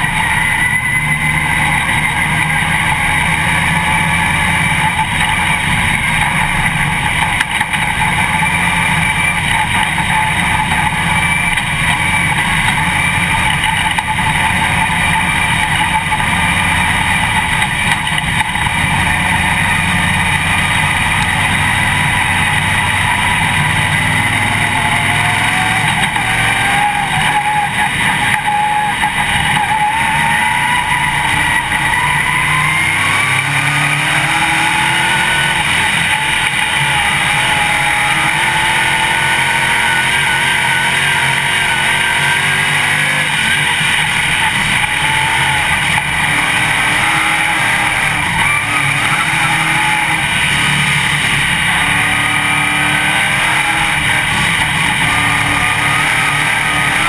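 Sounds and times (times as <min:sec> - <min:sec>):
race car engine droning: 0:00.0 - 0:57.0.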